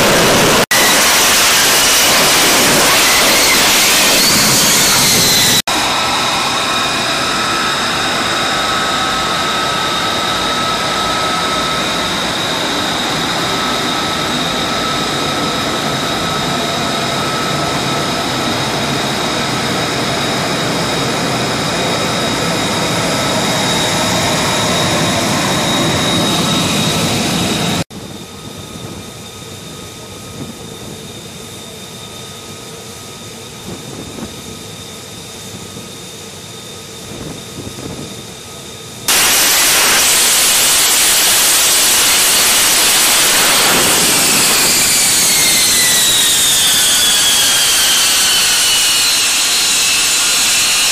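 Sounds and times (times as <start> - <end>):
jet engine whining: 0.0 - 50.9.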